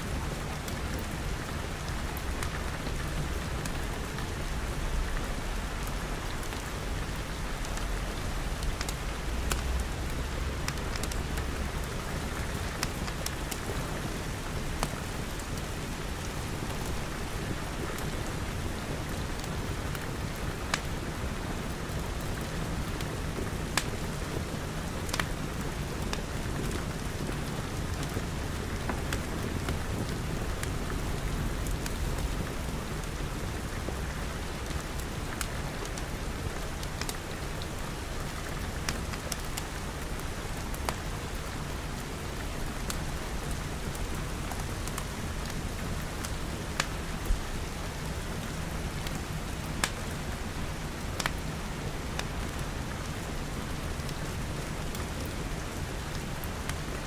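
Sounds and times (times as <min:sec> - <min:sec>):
steady rain pattering: 0:00.0 - 0:57.0
wood fire crackling: 0:00.3 - 0:57.0.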